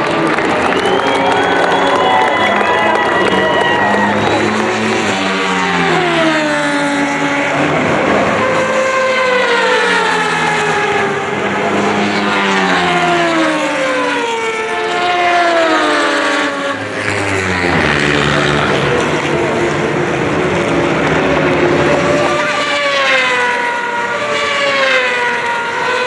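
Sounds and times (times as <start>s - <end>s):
racing motorcycles passing: 0.0s - 26.0s.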